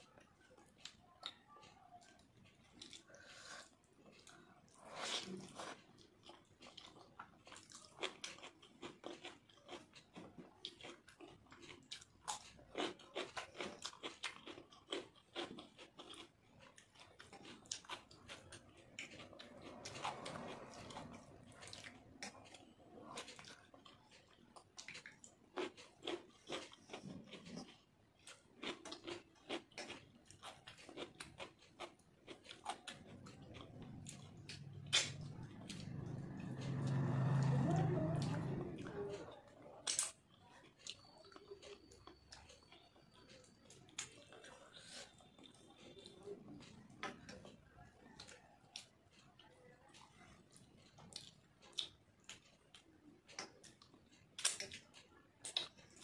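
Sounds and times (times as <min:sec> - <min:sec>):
chewing and lip-smacking: 0:00.0 - 0:56.0.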